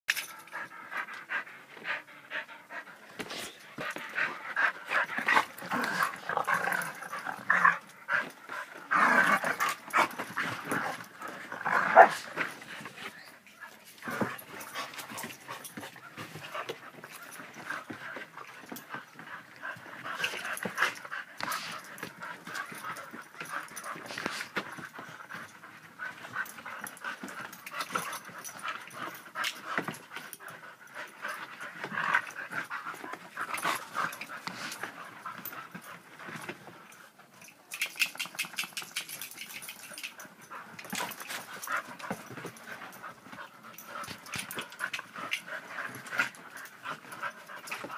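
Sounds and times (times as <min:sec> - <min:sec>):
dogs play-fighting growling: 0:00.2 - 0:47.9.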